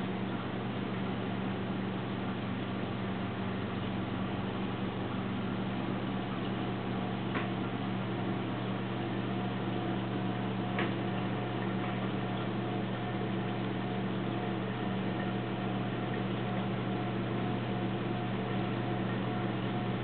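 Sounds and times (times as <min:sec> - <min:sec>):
aquarium pumps humming: 0:00.0 - 0:20.0.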